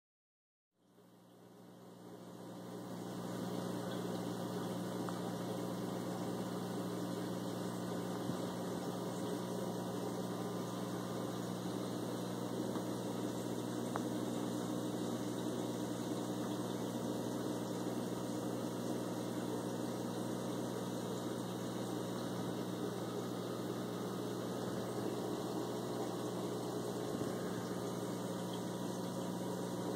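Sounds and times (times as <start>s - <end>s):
aquarium pumps humming: 0.8s - 29.9s.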